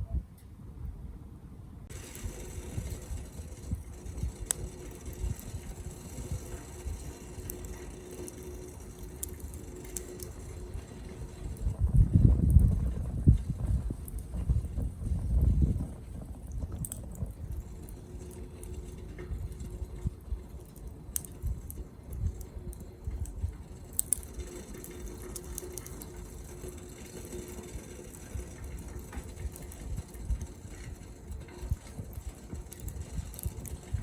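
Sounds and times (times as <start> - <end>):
wood fire crackling: 1.9 - 34.0.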